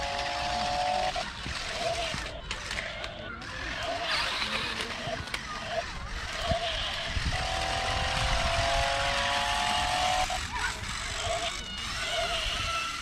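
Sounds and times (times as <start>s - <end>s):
toy electric motors whirring: 0.0s - 13.0s.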